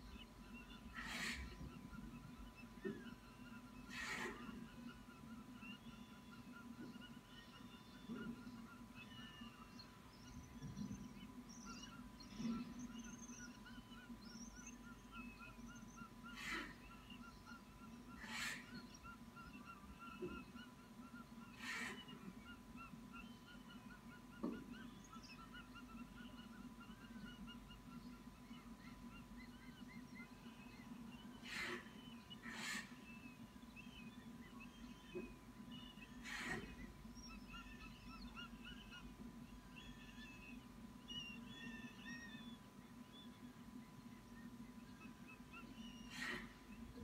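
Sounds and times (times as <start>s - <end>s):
faint steady tone: 0.0s - 47.0s.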